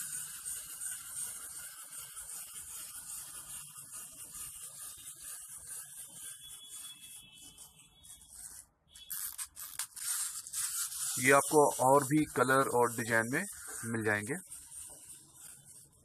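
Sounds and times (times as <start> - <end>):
wind-up toy motor whirring: 0.0 - 16.0.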